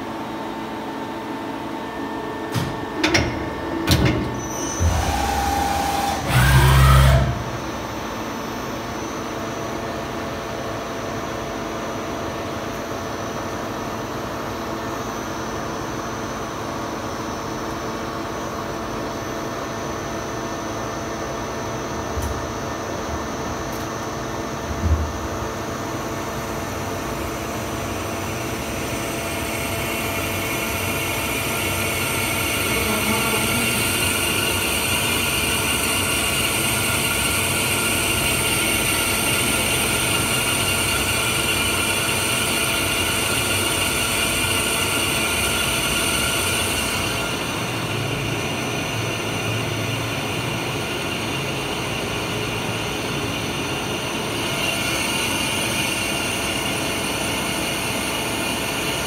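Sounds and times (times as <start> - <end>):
lathe machine hum: 3.0 - 59.0.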